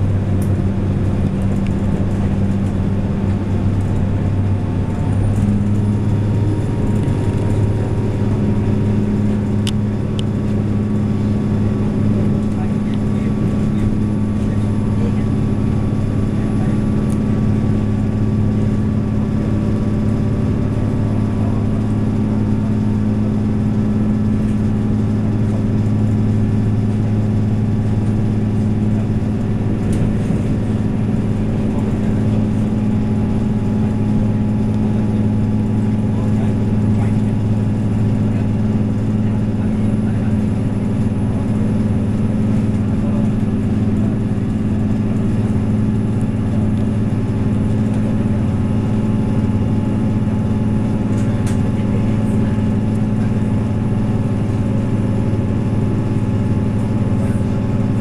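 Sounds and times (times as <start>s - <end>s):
diesel engine drone: 0.0s - 58.0s
train rolling noise: 0.0s - 58.0s.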